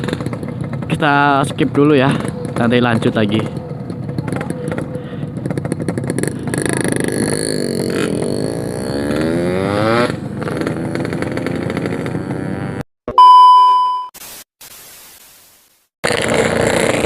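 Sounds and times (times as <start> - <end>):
motorcycle engine revving: 0.0 - 12.9, 16.0 - 17.0.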